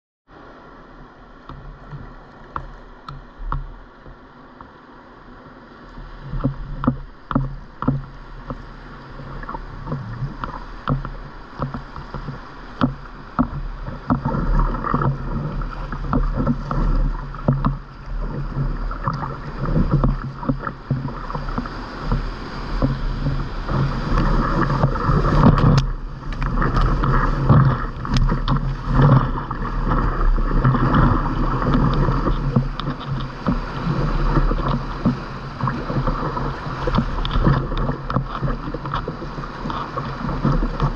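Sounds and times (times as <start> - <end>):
paddle splashing: 0.3 - 40.9
whitewater rushing: 0.3 - 40.9.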